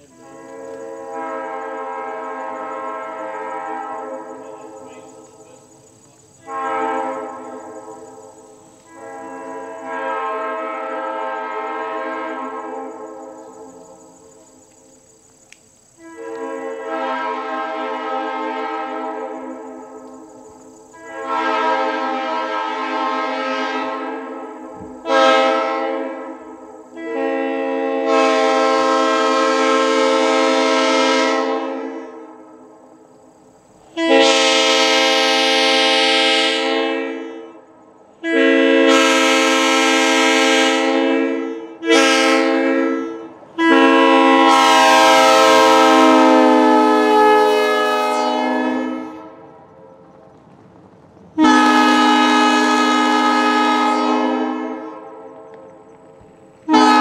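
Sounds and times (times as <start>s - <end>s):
locomotive air horn blasts: 0.0s - 5.4s, 6.4s - 14.2s, 16.0s - 32.7s, 33.9s - 49.7s, 51.4s - 55.8s, 56.6s - 57.0s.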